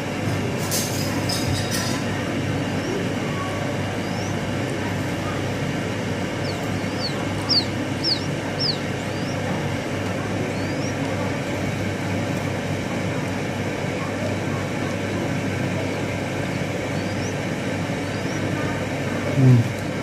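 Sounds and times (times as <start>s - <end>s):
low rumbling background noise: 0.0s - 20.0s
chicks peeping: 0.7s - 13.4s, 15.8s - 19.9s.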